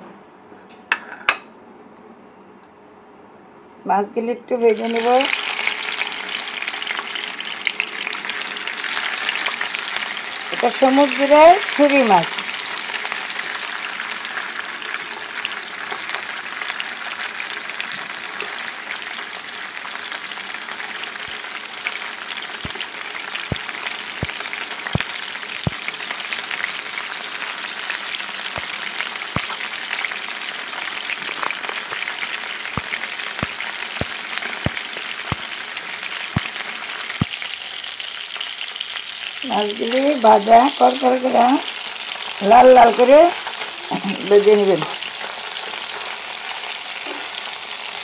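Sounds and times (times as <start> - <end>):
fish sizzling in oil: 4.6 - 48.0
oil popping and crackling: 4.8 - 39.4, 41.0 - 48.0.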